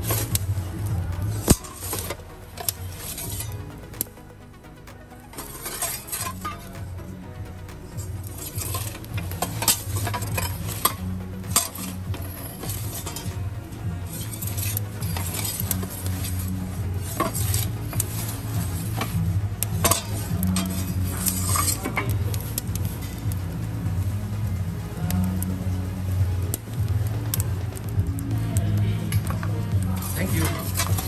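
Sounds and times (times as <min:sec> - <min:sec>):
fire crackling: 0:00.0 - 0:31.0
metal peel scraping brick floor: 0:00.0 - 0:31.0.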